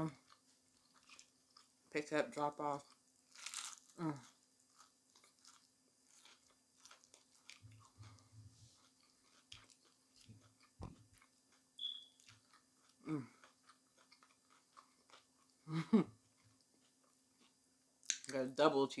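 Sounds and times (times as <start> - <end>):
person chewing food: 0.1 - 1.8, 2.8 - 18.2.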